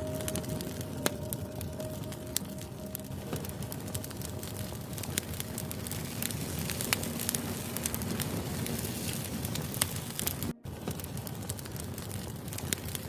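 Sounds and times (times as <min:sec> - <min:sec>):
firewood crackling and popping: 0:00.0 - 0:13.0
low rush of flame: 0:00.0 - 0:13.0.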